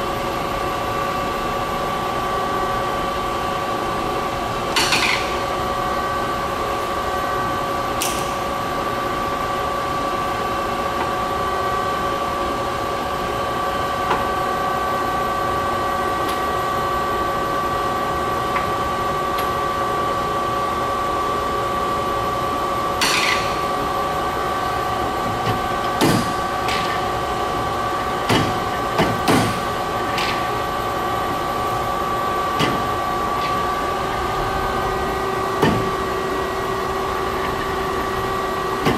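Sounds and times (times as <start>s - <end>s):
lathe humming and whining: 0.0s - 38.9s.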